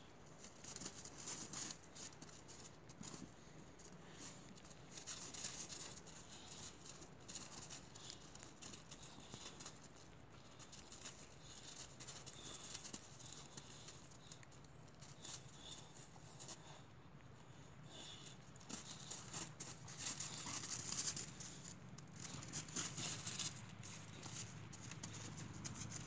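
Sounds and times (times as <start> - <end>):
dog paws crunching on snow: 0.2 - 16.8, 17.5 - 26.0.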